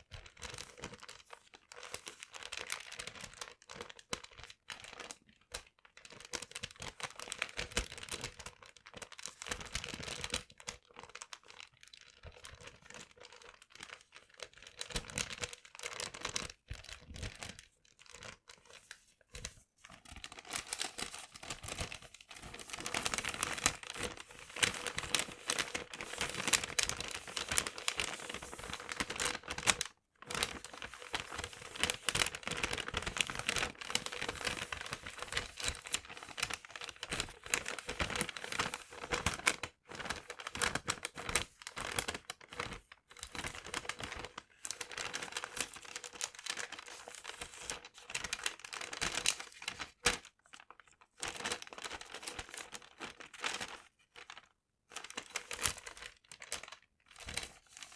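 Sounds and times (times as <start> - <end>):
paper being crumpled: 11.1 - 57.9.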